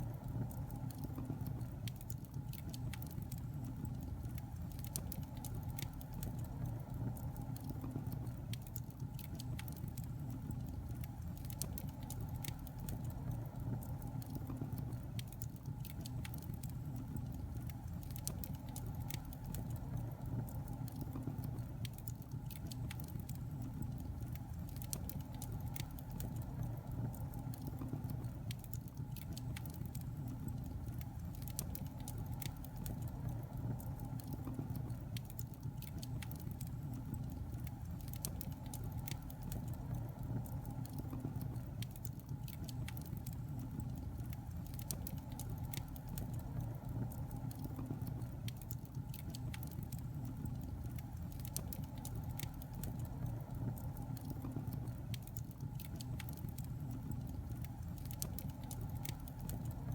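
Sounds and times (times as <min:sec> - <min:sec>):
fire crackling and popping: 0:00.0 - 0:59.9
fire flames rumbling: 0:00.0 - 0:59.9.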